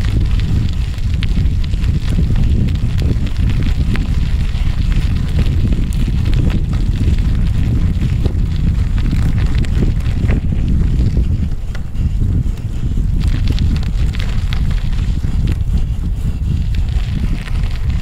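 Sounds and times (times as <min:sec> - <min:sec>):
bike on gravel clicks and rattles: 0:00.0 - 0:18.0
wind buffeting microphone: 0:00.0 - 0:18.0.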